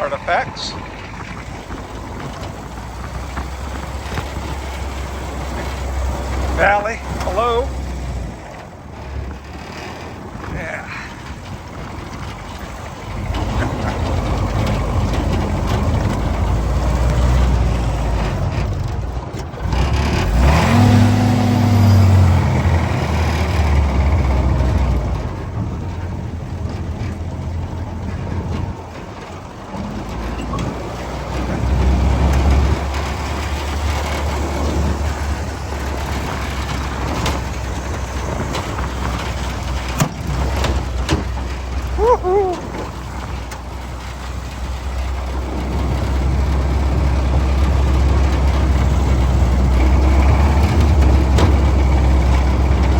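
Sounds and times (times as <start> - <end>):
jeep engine revving: 0.0 - 52.9.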